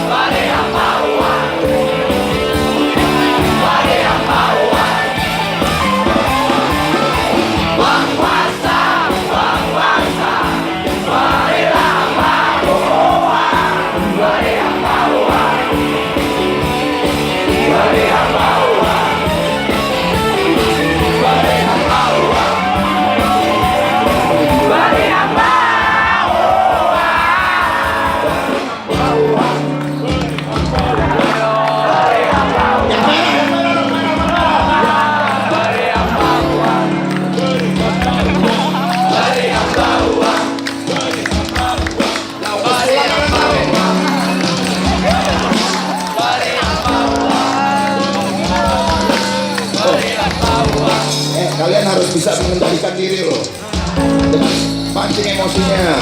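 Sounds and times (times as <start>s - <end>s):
person singing: 0.0s - 52.7s
crowd voices: 0.0s - 56.0s
live rock band playing: 0.0s - 56.0s.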